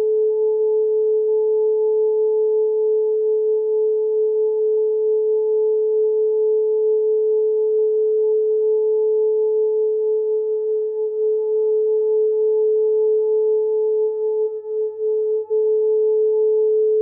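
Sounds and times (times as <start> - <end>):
faint higher electronic tone: 0.0 - 17.0.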